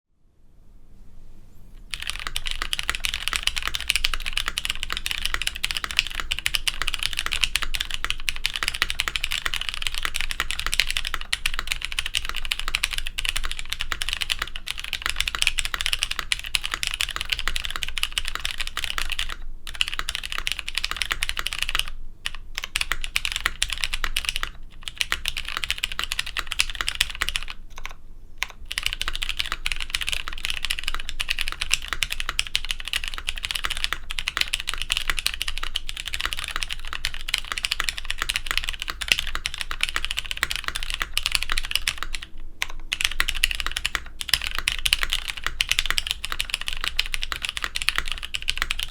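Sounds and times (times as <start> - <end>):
mechanical keyboard typing: 1.9 - 48.9.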